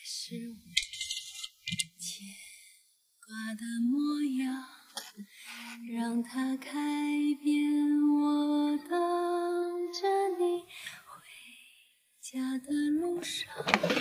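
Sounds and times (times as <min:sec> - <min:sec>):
woman singing slow song: 0:00.0 - 0:00.6, 0:01.9 - 0:14.0.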